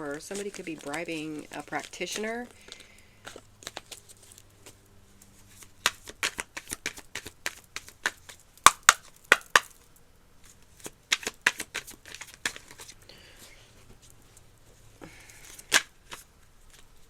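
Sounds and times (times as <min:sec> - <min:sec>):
cards shuffling and snapping: 0:00.0 - 0:09.8, 0:10.4 - 0:13.0, 0:15.0 - 0:17.0.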